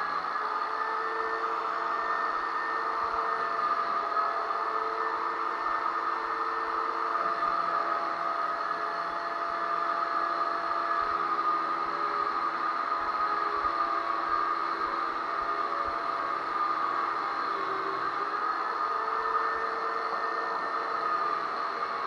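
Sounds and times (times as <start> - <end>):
electric sander whirring and hissing: 0.0 - 22.0.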